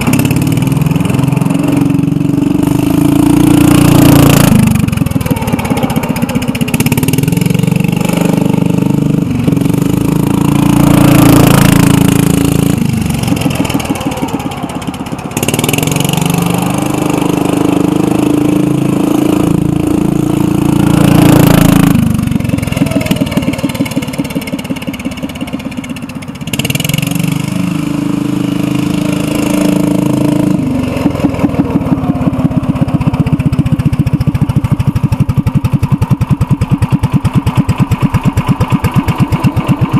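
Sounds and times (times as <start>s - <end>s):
loud engine revving: 0.0s - 39.9s.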